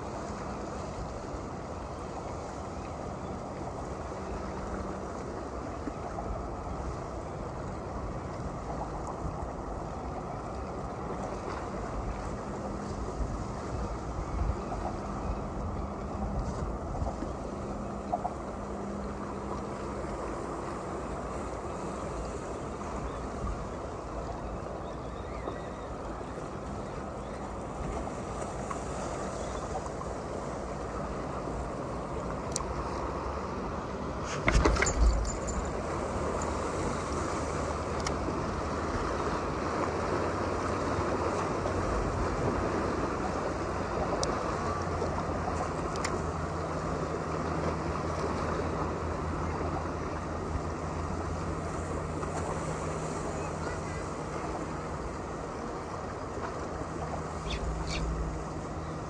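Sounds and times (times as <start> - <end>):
steady wind: 0.0 - 59.0
waves lapping against a seawall: 0.0 - 59.0.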